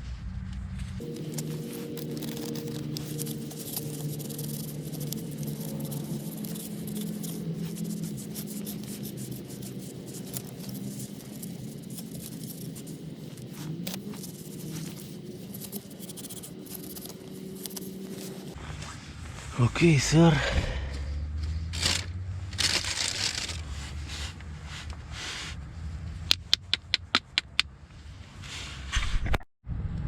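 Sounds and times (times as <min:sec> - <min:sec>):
steady low hum: 0:00.0 - 0:28.4.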